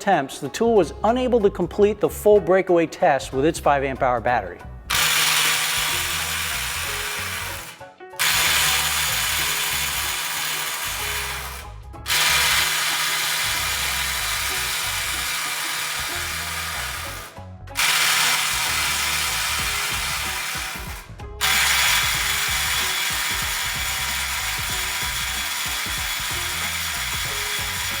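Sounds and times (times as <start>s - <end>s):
impact driver hammering: 4.9s - 28.0s.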